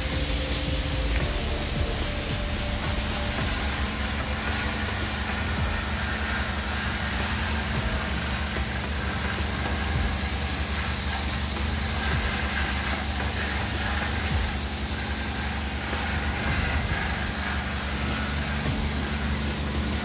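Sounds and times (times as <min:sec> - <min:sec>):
constant low hum: 0:00.0 - 0:20.0
pressure washer spray hissing: 0:00.0 - 0:20.0.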